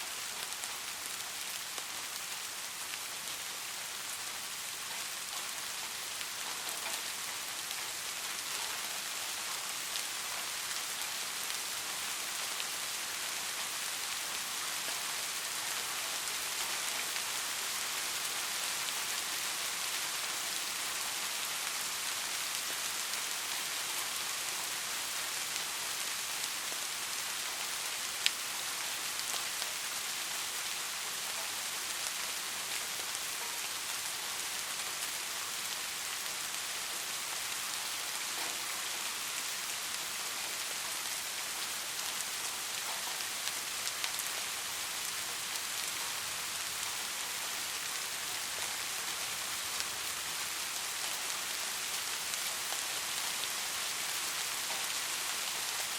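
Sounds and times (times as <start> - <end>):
rain pattering on hard surfaces: 0.0 - 55.9.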